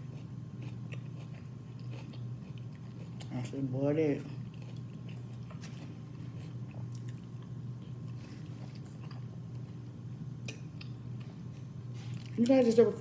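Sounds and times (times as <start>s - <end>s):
chewing and mouth sounds: 0.0s - 3.6s, 4.2s - 9.7s, 10.4s - 12.6s
steady low hum: 0.0s - 13.0s.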